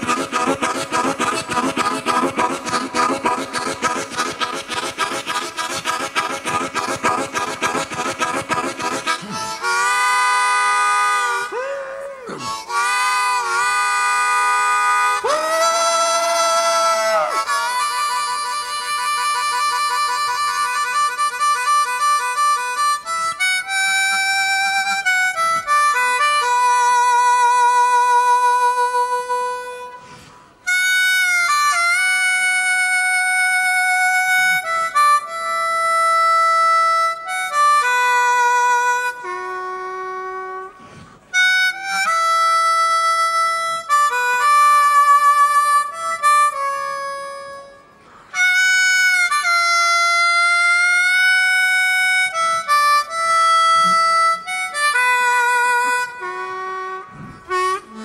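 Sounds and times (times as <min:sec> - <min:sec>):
blues harmonica: 0:00.0 - 0:58.0.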